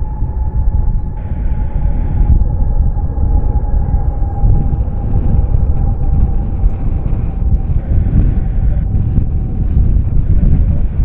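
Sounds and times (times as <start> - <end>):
high whine: 0.0 - 11.0
jet engine noise: 0.0 - 11.0
wind rumble on microphone: 0.0 - 11.0.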